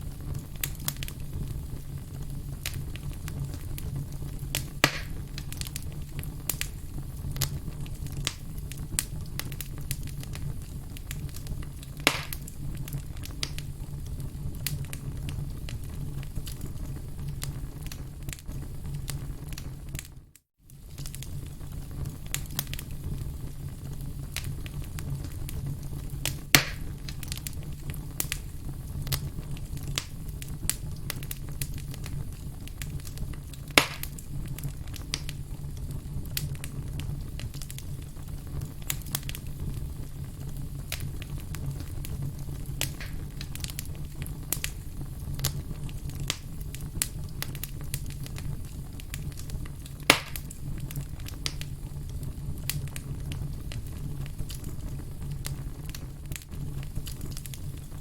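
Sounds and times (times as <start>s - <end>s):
fire crackling: 0.0s - 58.0s
loud fire pops: 0.0s - 58.0s
low rumble of flames: 0.0s - 58.0s.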